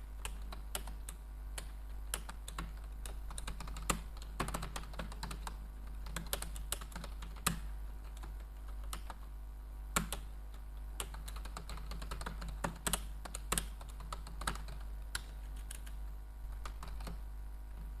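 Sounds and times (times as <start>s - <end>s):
steady low hum: 0.0s - 18.0s
keyboard typing: 0.2s - 9.3s, 10.0s - 17.9s.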